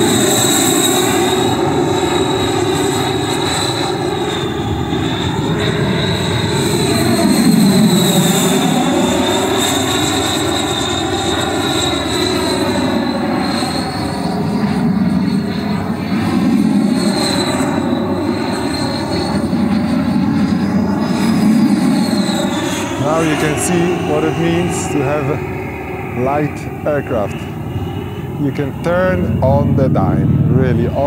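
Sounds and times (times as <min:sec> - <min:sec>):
electric ducted fan whine: 0:00.0 - 0:31.0.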